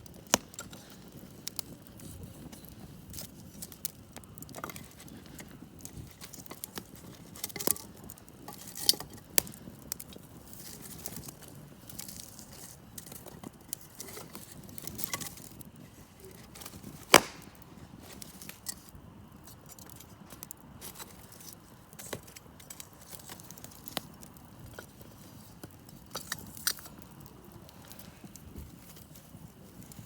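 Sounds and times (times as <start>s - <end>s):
campfire crackling: 0.0s - 30.0s
sharp fire pops: 0.0s - 30.0s.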